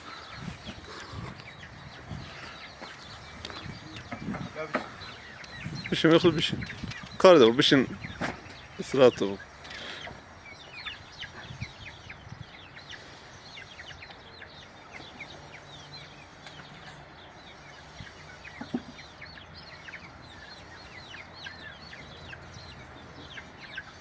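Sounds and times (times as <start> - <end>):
chicken clucking: 0.0 - 24.0
chicks chirping: 0.0 - 24.0.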